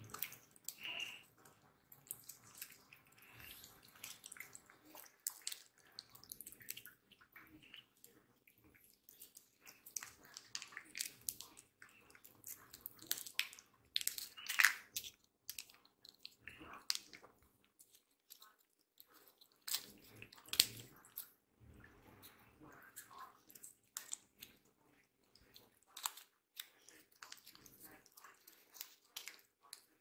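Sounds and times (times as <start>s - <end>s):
cats licking wet treat: 0.0s - 30.0s.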